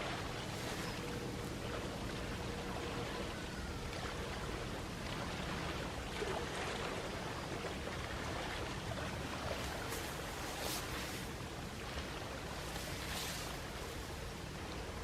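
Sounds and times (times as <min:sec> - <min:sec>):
light water splashes: 0:00.0 - 0:15.0
small waves lapping on shore: 0:00.0 - 0:15.0.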